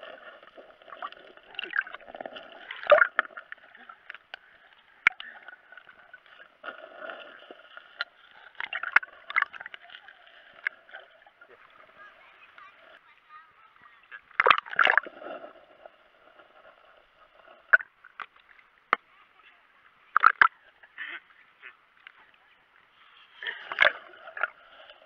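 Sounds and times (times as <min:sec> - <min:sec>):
muffled underwater water sloshing: 0:00.0 - 0:25.0.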